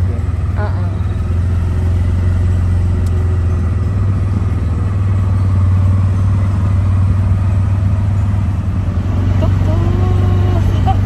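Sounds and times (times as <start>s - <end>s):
small engine droning: 0.0s - 11.0s.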